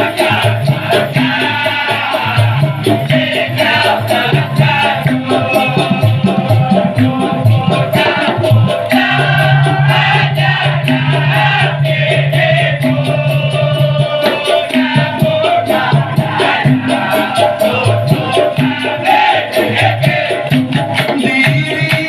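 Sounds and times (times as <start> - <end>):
group of voices singing: 0.0 - 22.0
maracas shaking: 0.0 - 22.0
percussion: 0.0 - 22.0.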